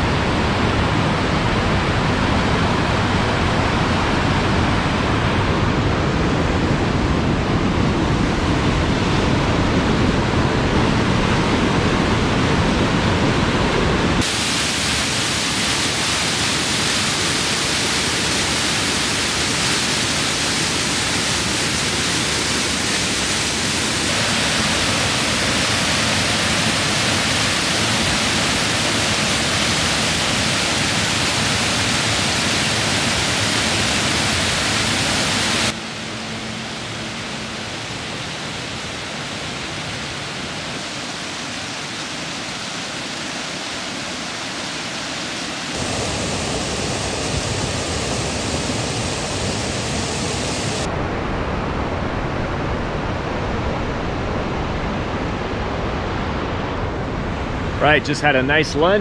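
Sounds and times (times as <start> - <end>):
waterfall rushing: 0.0 - 56.7, 57.5 - 59.0.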